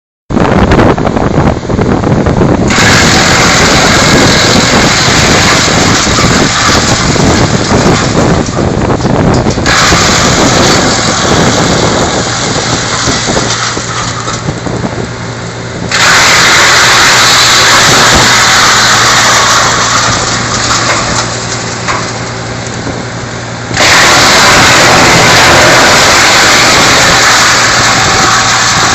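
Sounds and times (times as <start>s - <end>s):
engine hum: 0.3s - 28.9s
branch chipper chipping: 2.3s - 28.9s.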